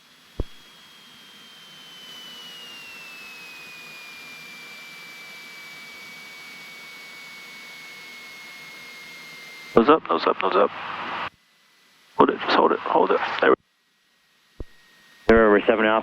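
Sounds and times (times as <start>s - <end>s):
thin whine sliding down: 0.0s - 13.6s.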